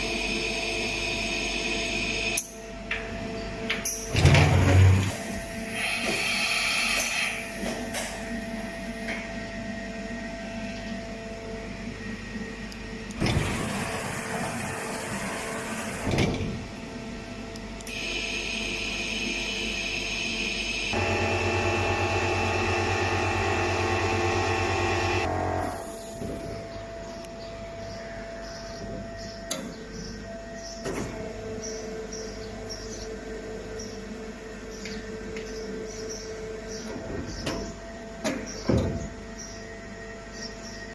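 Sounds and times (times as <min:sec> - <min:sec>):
machining center motor hum: 0:00.0 - 0:40.9.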